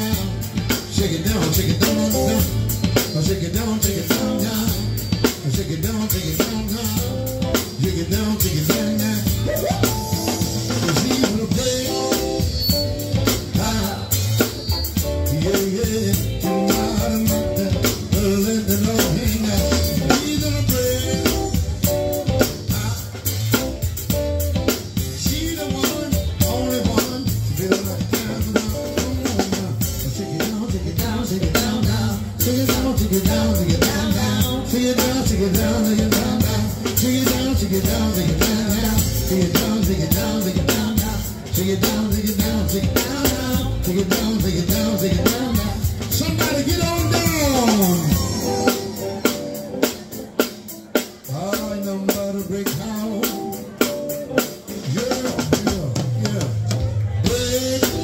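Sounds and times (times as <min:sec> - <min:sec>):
drum kit with cymbals: 0:00.0 - 0:58.0
electric guitar: 0:00.0 - 0:58.0.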